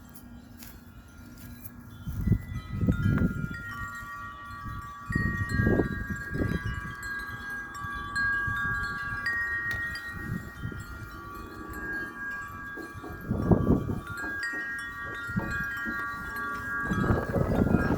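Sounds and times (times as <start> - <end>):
wind chimes ringing: 0.0 - 17.9
wind rumbling: 2.0 - 17.9.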